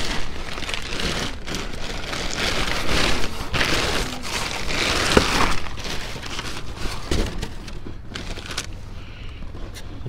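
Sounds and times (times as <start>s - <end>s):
plastic bags rustling and crinkling: 0.0s - 10.0s.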